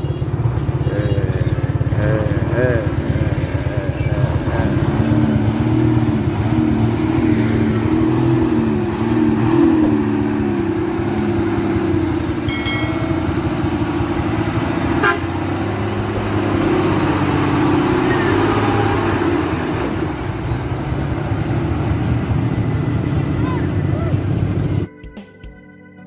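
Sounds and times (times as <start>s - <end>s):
truck diesel engine under load: 0.0s - 24.9s.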